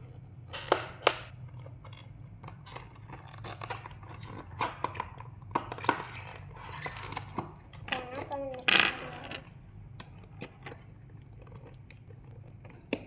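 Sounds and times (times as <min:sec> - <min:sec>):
objects clicking and scraping: 0:00.5 - 0:13.0.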